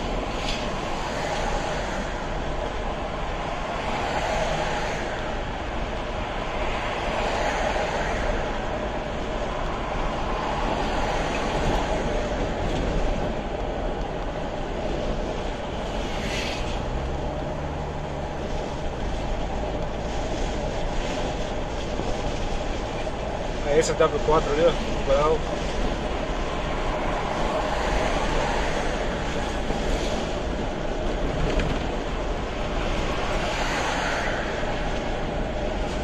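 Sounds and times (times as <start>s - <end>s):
car engine drone: 0.0s - 36.0s
road and tyre noise: 0.0s - 36.0s.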